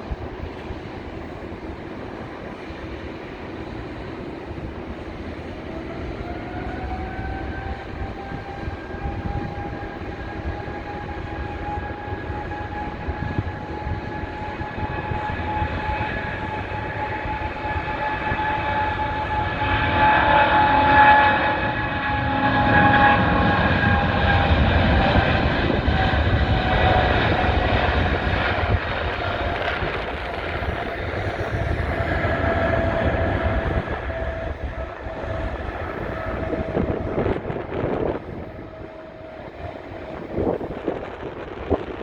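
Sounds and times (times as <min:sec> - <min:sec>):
jet airliner roar with whine: 0:00.0 - 0:42.0.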